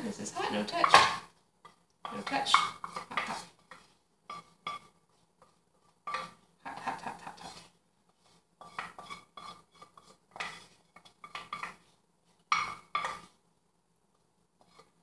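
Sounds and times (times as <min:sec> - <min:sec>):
utensil scraping a frying pan: 0:00.0 - 0:13.4, 0:14.6 - 0:15.0.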